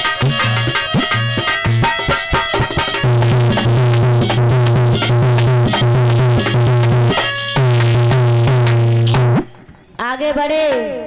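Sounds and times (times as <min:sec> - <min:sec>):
harmonium melody: 0:00.0 - 0:09.5
dholak drum rhythm: 0:00.0 - 0:09.6.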